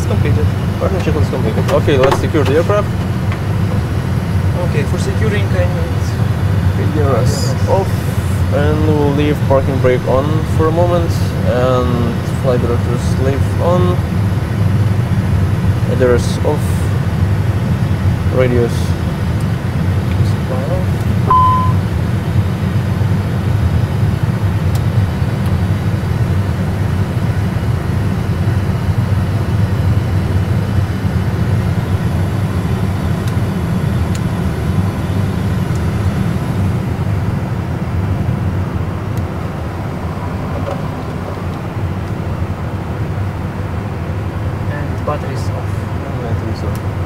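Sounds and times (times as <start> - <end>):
cockpit background rumble: 0.0 - 47.0.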